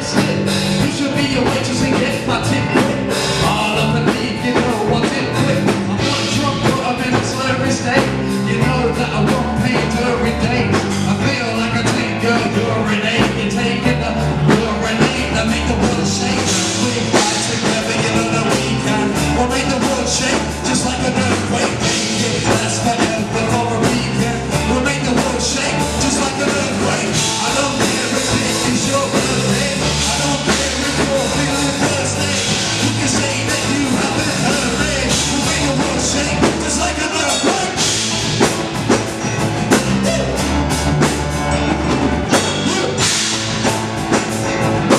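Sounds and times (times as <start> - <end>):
bass line: 0.0 - 44.9
drum kit beat: 0.0 - 44.9
rock band playing: 0.0 - 44.9.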